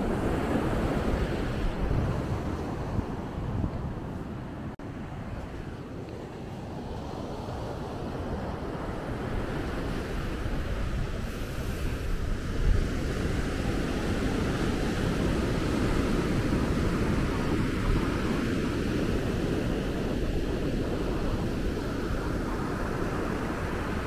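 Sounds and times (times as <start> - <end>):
ocean surf on beach: 0.0 - 24.0
wind buffeting microphone: 0.0 - 24.0.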